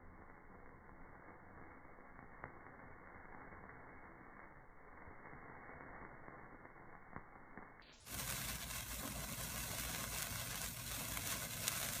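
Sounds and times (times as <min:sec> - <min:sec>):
sparkler hissing and crackling: 0:00.0 - 0:12.0.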